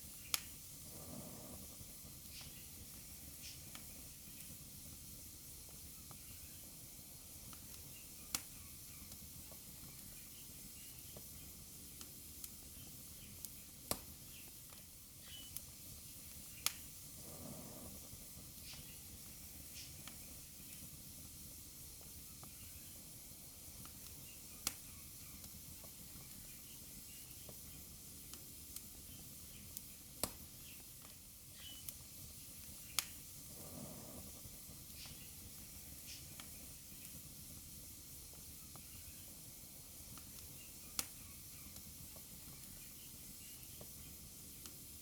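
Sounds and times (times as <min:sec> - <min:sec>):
fire hissing and crackling: 0:00.0 - 0:45.0.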